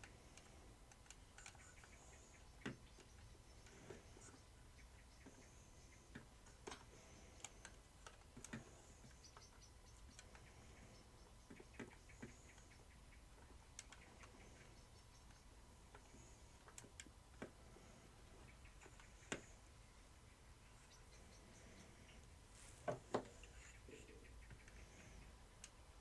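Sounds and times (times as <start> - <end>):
faint small plastic clicks: 0.0 - 19.8, 20.9 - 26.0.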